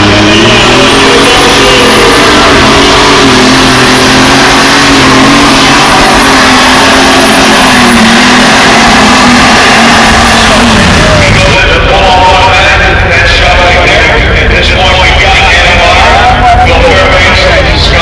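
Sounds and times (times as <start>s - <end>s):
tractor engine running flat out: 0.0s - 18.0s.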